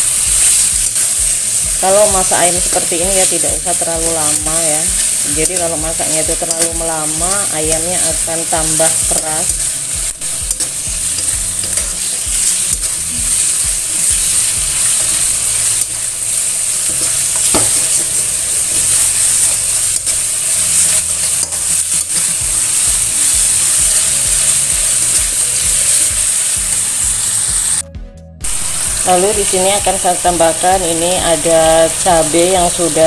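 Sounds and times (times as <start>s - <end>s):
meat sizzling in a wok: 0.0s - 27.8s, 28.4s - 33.0s.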